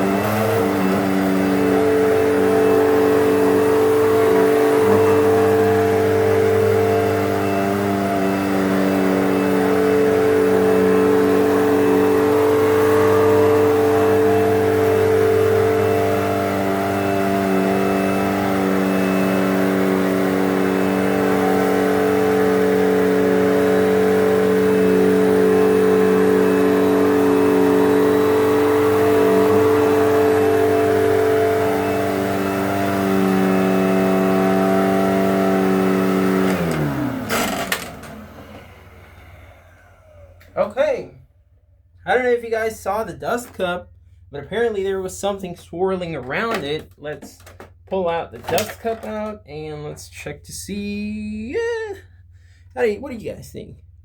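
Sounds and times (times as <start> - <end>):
vacuum cleaner running: 0.0 - 41.0, 44.6 - 49.9.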